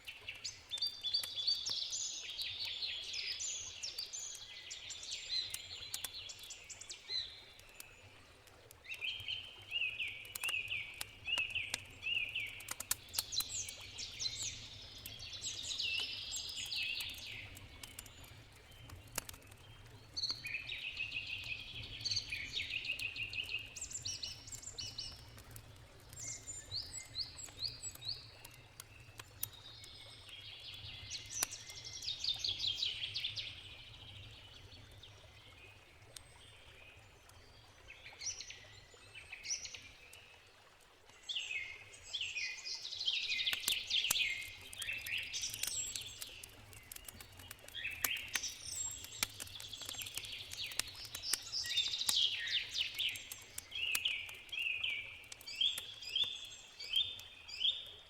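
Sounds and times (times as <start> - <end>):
campfire crackling and popping: 0.0 - 40.9, 42.7 - 58.0
songbirds singing and chirping: 0.0 - 58.0.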